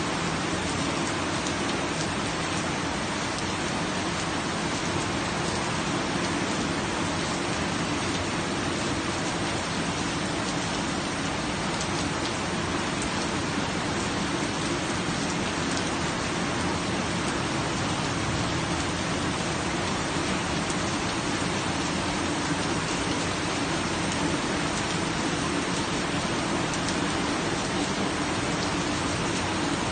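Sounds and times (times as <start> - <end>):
rain pattering: 0.0 - 29.9.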